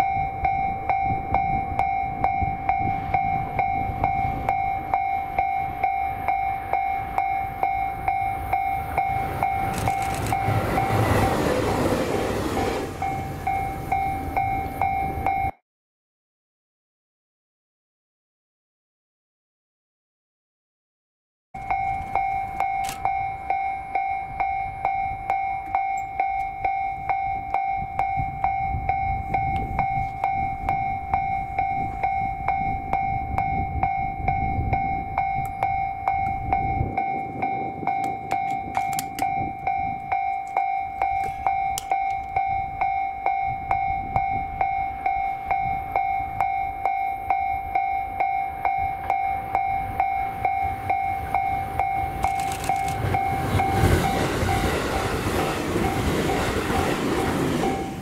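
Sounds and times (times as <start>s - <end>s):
level crossing bell ringing: 0.0s - 15.5s, 21.6s - 58.0s
low train rumble: 0.0s - 15.5s, 21.7s - 58.0s.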